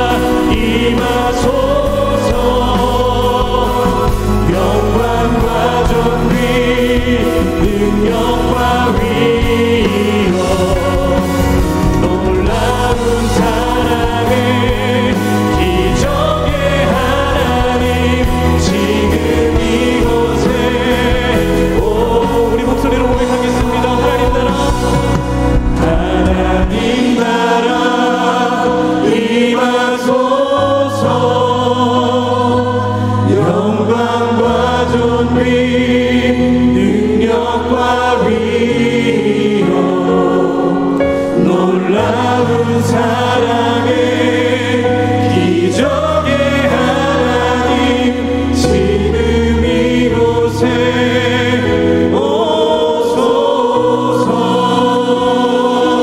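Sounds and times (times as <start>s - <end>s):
band accompaniment: 0.0s - 56.0s
group singing worship song: 0.0s - 56.0s.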